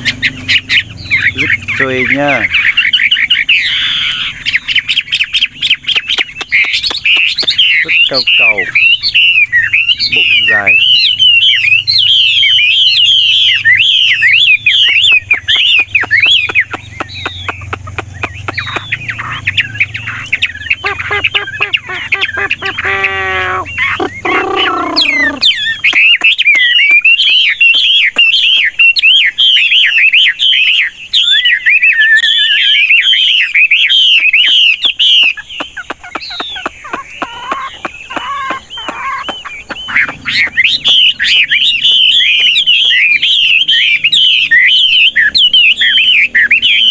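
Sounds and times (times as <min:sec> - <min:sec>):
bird singing warbling song: 0:00.0 - 0:46.9.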